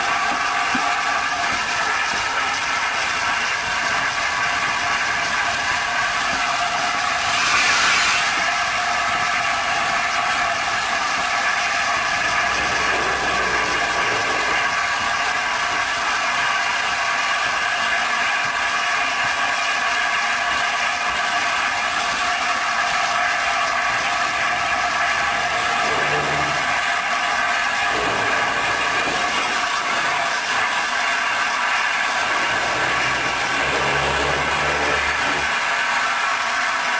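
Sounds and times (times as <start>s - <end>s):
steam train hiss: 0.0s - 36.9s.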